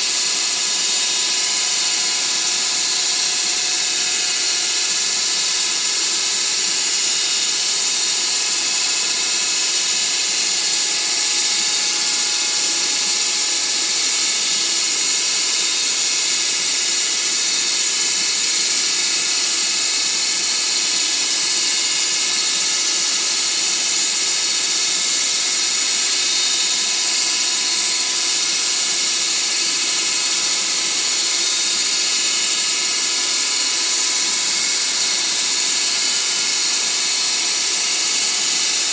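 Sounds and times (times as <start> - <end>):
metal lathe whining: 0.0 - 38.9.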